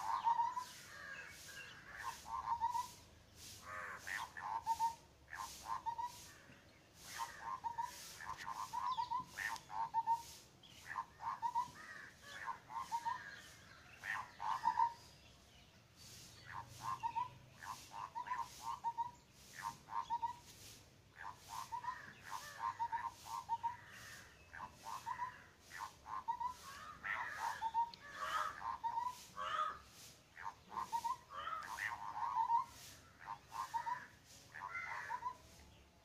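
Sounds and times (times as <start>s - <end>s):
birds calling with harsh notes: 0.0s - 36.0s.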